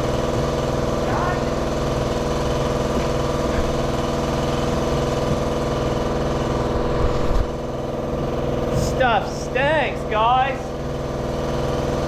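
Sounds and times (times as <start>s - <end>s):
air compressor motor running: 0.0s - 12.0s.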